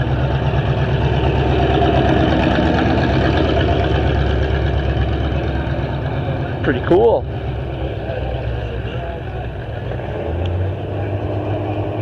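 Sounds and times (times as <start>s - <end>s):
car engine running low speed: 0.0s - 12.0s.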